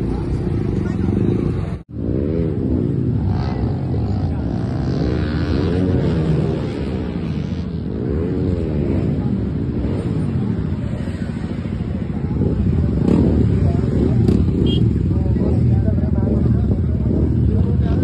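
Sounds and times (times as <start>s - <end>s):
motorcycle engine revving: 0.0s - 18.0s
motorcycle engines rumbling: 0.0s - 18.0s.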